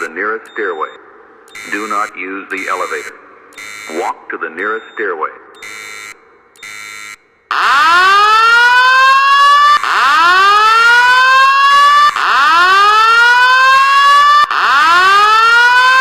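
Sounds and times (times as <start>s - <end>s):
fire alarm whoop tone: 0.0s - 4.2s, 5.6s - 16.0s.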